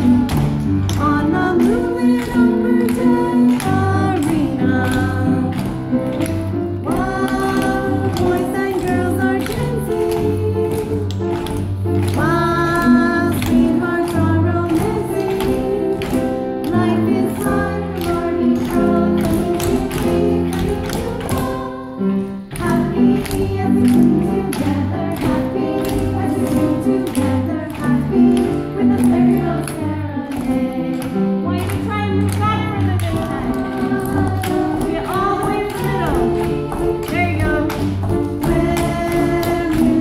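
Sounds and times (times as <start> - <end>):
music with voices singing: 0.0 - 40.0.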